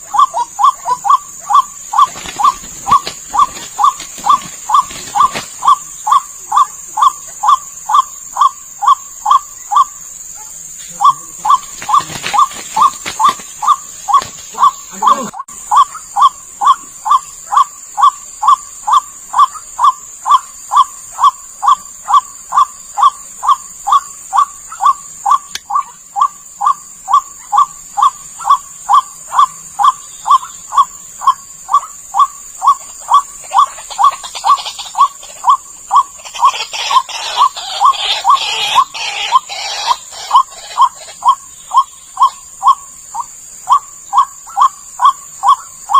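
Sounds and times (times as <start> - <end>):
repeated bird call: 0.0 - 45.9
steady high hiss: 0.0 - 45.9.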